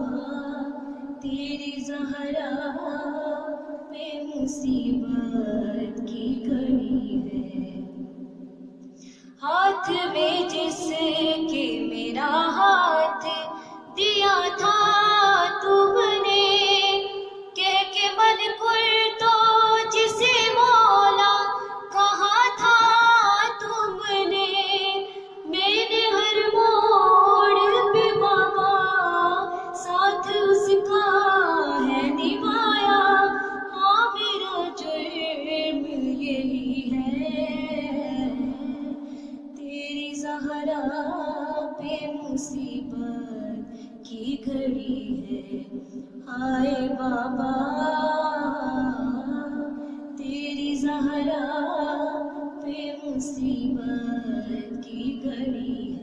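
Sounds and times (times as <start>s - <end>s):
woman singing a lament unaccompanied: 0.0s - 8.0s, 9.3s - 56.0s.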